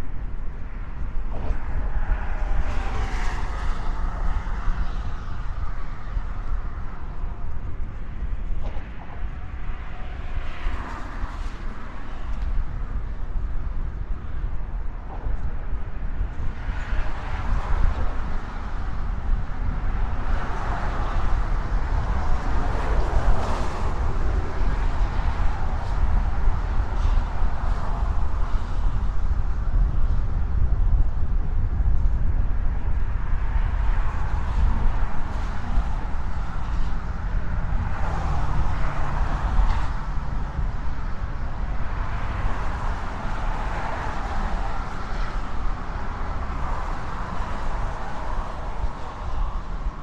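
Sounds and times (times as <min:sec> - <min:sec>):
traffic rumble: 0:00.0 - 0:50.0
tyre noise of passing vehicles: 0:00.0 - 0:50.0.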